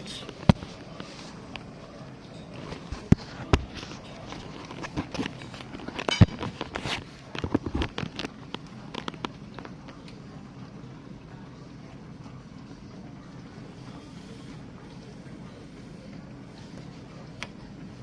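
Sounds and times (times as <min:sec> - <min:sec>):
dishwasher hum and water noise: 0:00.0 - 0:18.0.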